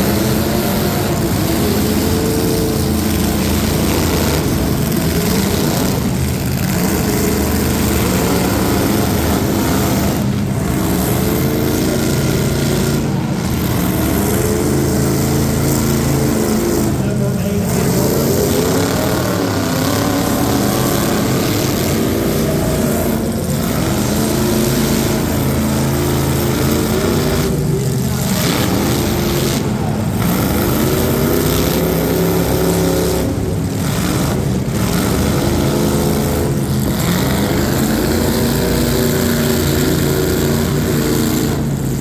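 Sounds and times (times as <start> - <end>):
racing truck engines revving: 0.0 - 42.0.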